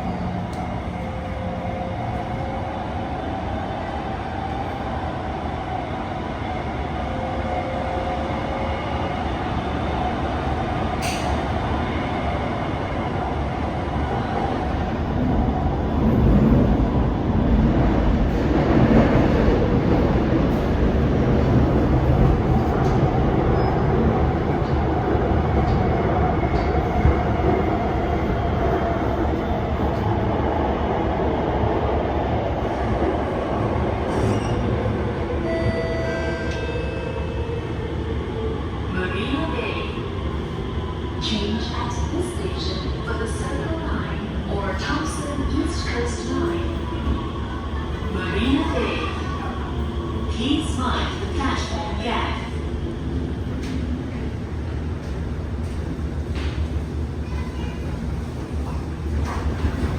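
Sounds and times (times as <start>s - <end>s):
train wheels rumbling on rails: 7.1s - 35.4s, 37.4s - 59.9s.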